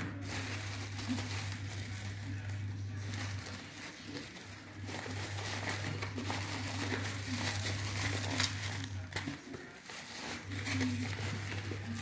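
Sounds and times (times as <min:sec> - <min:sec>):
bubble wrap crinkling: 0:00.0 - 0:12.0
steady low hum: 0:00.0 - 0:12.0.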